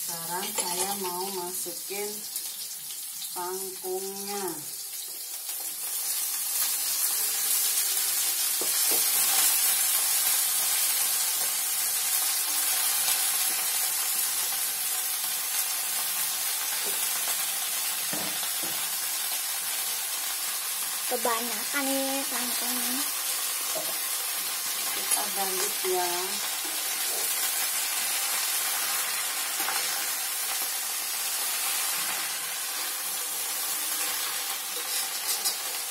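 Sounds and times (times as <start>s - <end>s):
vegetables sizzling in hot oil: 0.0s - 35.9s.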